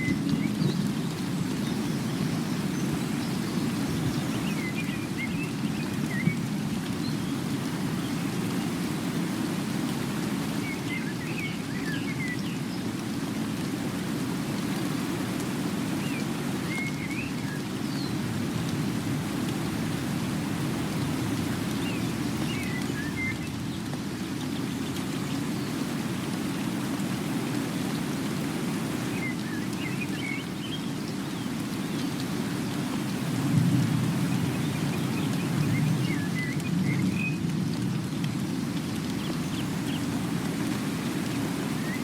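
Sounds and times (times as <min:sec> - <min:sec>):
low rushing outdoor noise: 0:01.1 - 0:42.0.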